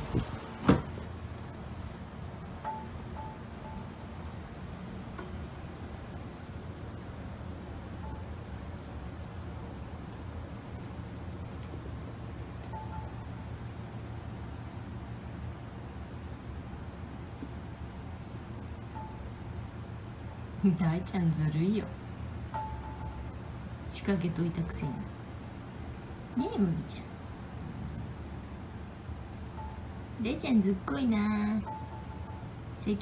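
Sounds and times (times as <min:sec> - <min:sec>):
low even hum: 0:00.0 - 0:33.0.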